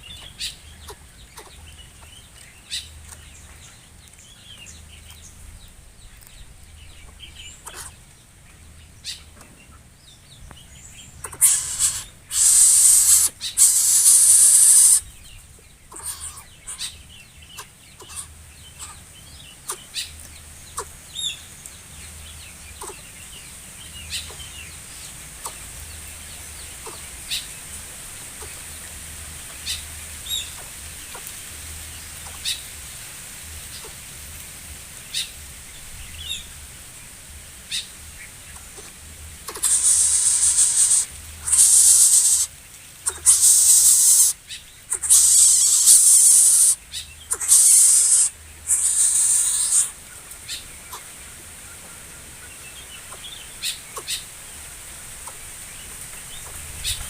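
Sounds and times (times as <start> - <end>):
birds chirping: 0.0 - 32.8, 35.0 - 57.0
outdoor background noise: 0.0 - 57.0.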